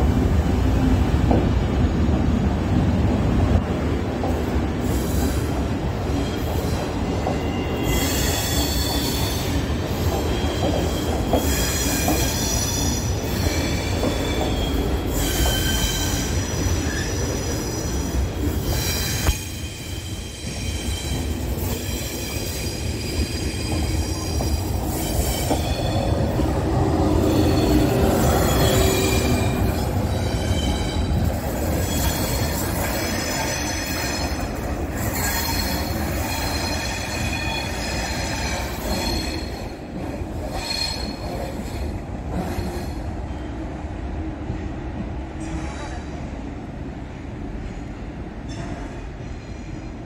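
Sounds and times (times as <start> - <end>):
train low rumble: 0.0 - 8.4, 9.0 - 50.0.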